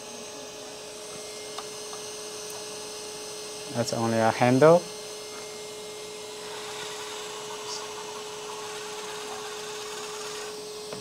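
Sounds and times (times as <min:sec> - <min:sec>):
steady electronic hum: 0:00.0 - 0:11.0.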